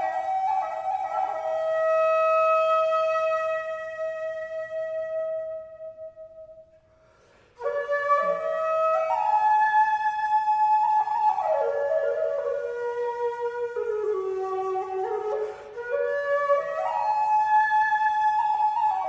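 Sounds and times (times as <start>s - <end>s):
flute melody: 0.0s - 6.8s, 7.6s - 19.0s.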